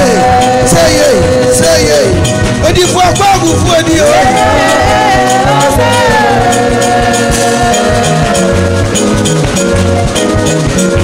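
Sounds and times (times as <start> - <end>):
drum kit beat: 0.0 - 11.0
stepping bass line: 0.0 - 11.0
sustained held chords: 0.0 - 11.0.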